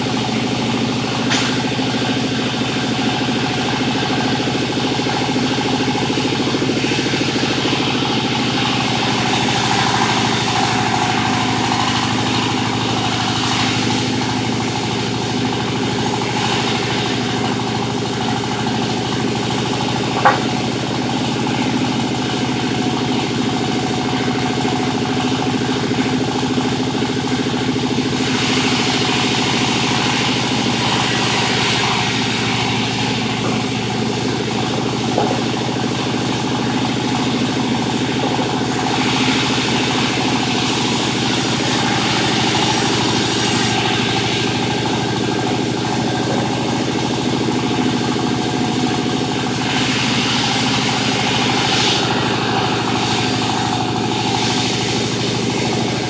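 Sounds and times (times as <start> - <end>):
sawmill engine drone: 0.0 - 56.0
saw hissing through wood: 5.5 - 22.7, 27.8 - 56.0.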